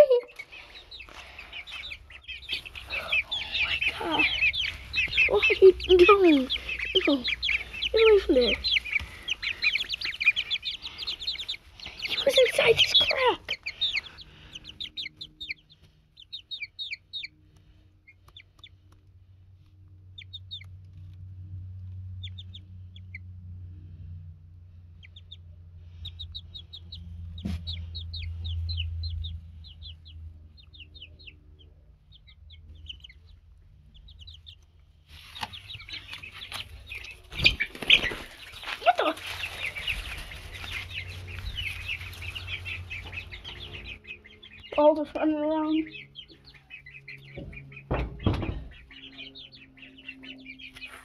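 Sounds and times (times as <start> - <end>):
low rumble: 0.0 - 17.9, 19.0 - 51.0
baby chicks peeping: 0.0 - 51.0.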